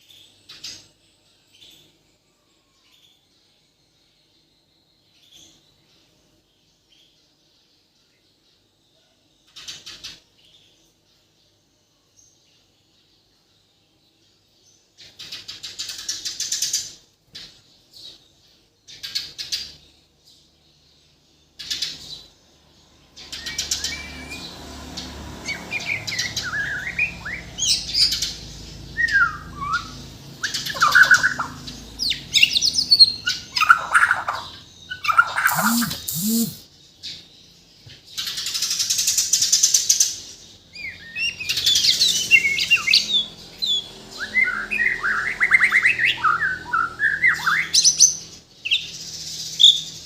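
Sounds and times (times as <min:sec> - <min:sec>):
songbird singing: 0:00.0 - 0:39.5, 0:40.2 - 0:50.0.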